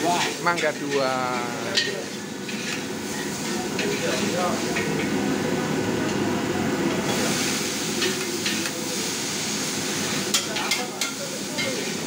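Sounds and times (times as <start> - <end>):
frying hiss: 0.0 - 12.0.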